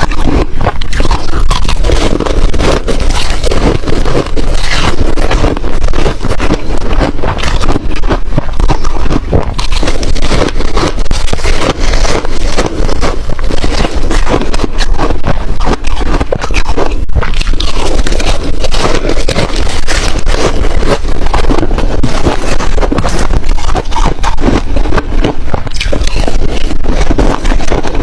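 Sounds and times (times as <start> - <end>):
ice being chewed: 0.0 - 28.0.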